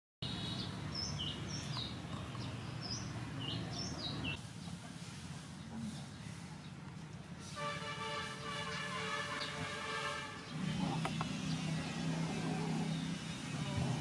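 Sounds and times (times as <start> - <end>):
small birds chirping: 0.2 - 7.3, 8.4 - 14.0
steady background noise: 0.2 - 14.0.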